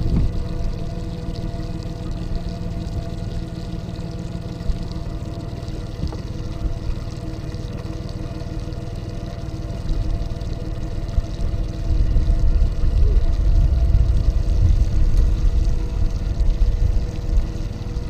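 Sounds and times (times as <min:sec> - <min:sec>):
low rumble: 0:00.0 - 0:18.0
water pouring and trickling: 0:00.0 - 0:18.0.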